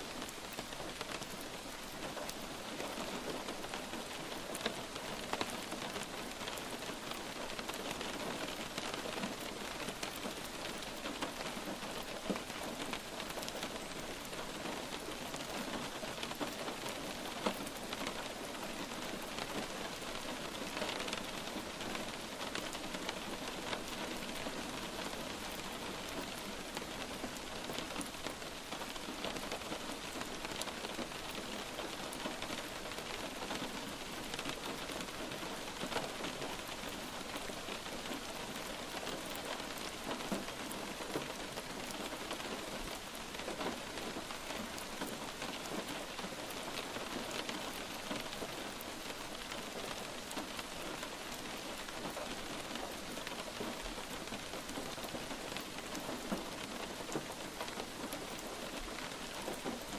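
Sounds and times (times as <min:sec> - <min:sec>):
light rain hissing: 0:00.0 - 0:59.9.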